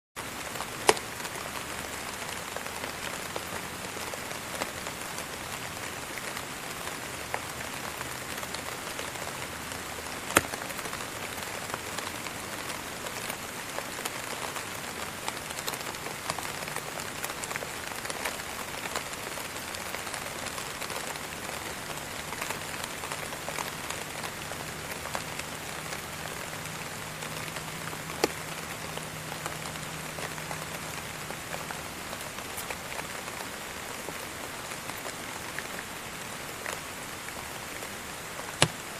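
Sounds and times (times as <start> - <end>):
rain pattering: 0.2 - 38.9.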